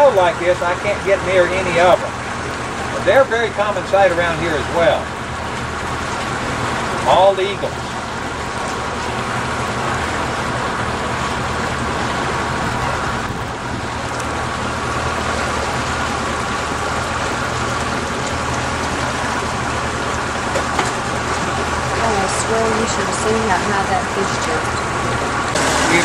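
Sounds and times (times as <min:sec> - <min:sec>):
boat motor humming: 0:00.0 - 0:26.0
wind and water rushing: 0:00.0 - 0:26.0.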